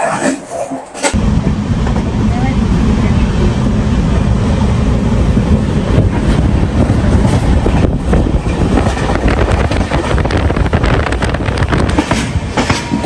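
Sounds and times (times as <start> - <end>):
train wheel and track noise: 0.0 - 13.0
wind buffeting microphone: 1.2 - 13.0.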